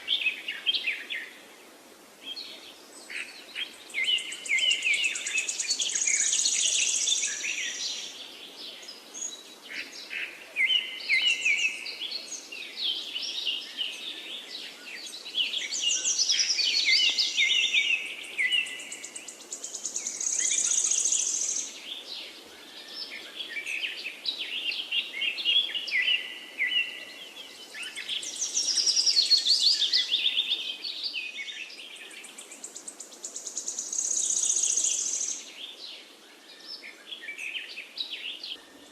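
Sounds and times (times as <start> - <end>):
birds singing: 2.2 - 38.9.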